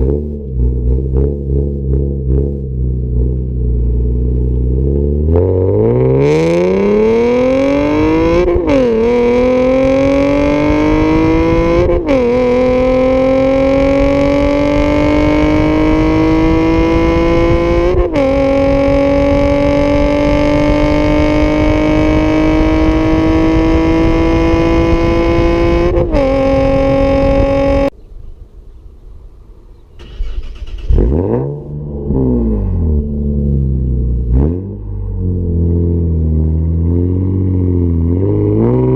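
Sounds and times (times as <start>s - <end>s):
car engine accelerating hard: 0.0s - 27.9s, 30.0s - 38.9s.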